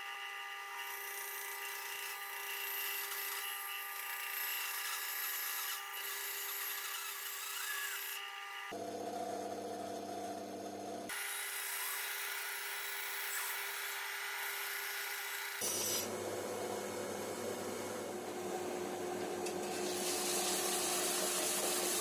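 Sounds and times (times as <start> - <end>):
power tool cutting wood: 0.0 - 8.8, 11.1 - 16.2, 17.2 - 22.0.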